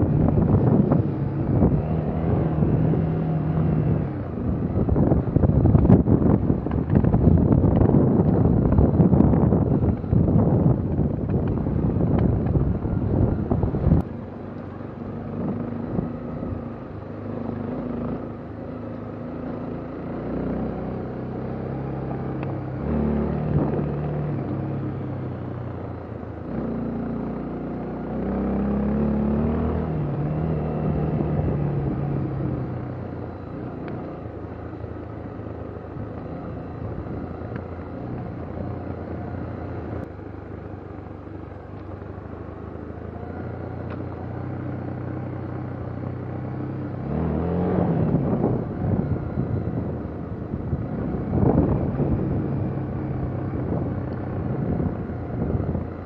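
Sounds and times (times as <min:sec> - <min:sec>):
vehicle engine revving: 0:00.0 - 0:40.1, 0:42.9 - 0:56.0.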